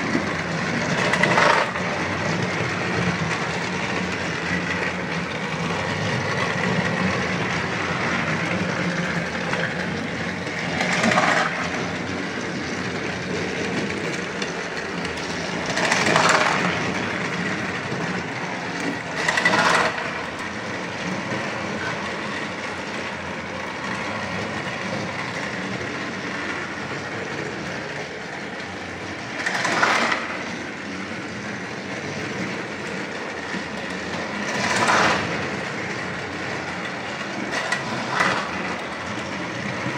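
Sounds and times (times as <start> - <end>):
toy train motor whir: 0.0 - 39.9
toy train wheels rattling: 0.0 - 39.9.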